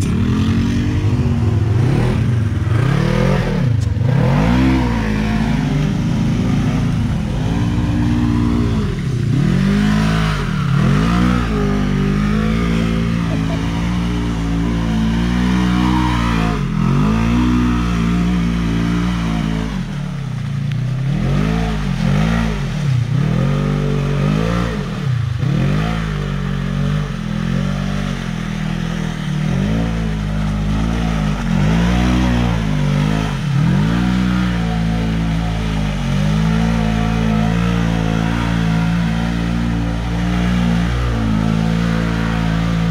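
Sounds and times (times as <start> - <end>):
engine idling nearby: 0.0 - 42.9
utility vehicle engine revving: 0.0 - 42.9.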